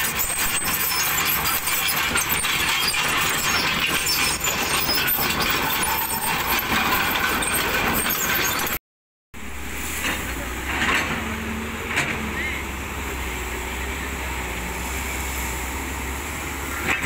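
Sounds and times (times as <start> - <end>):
diesel engine rumbling: 0.0 - 8.8, 9.4 - 17.0.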